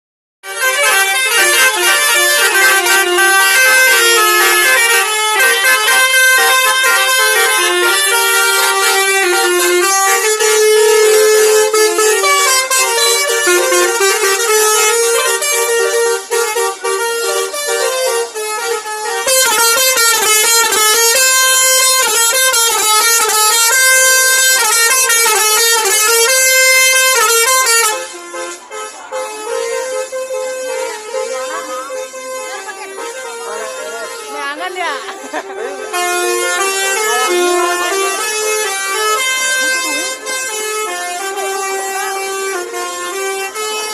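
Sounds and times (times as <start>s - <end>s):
multi-tone air horn tune: 0.4s - 43.9s.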